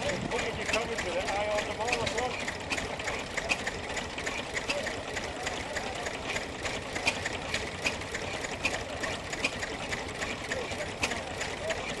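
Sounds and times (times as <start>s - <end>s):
stationary engine clattering: 0.0s - 12.0s.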